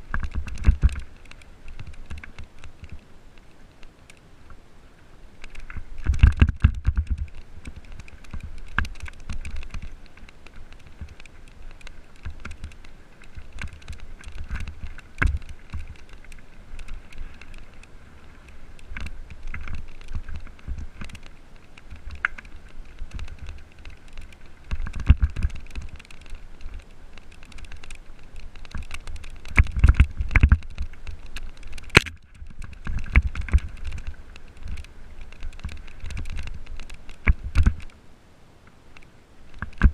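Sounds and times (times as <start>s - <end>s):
bike rattling over stones: 0.0s - 3.0s, 5.4s - 38.0s, 39.5s - 39.9s
wind rumble on microphone: 0.0s - 38.0s, 38.7s - 39.9s.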